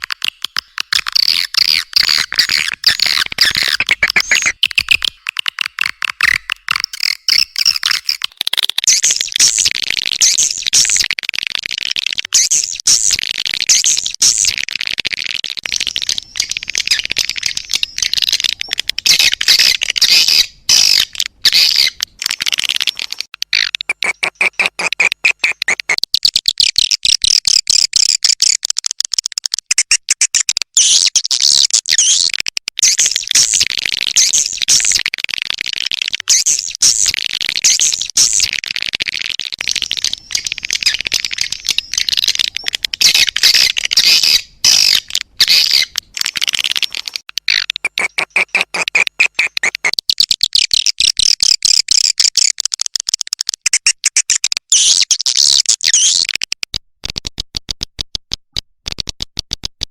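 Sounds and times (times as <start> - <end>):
swiftlet chirps and clicks: 0.0 - 56.8.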